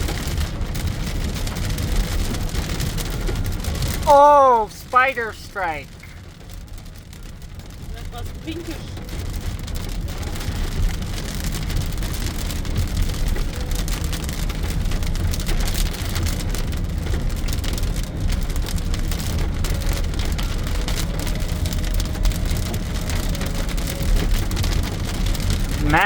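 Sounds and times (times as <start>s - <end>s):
heavy rain on car roof: 0.0s - 26.0s
low road rumble: 0.0s - 26.0s.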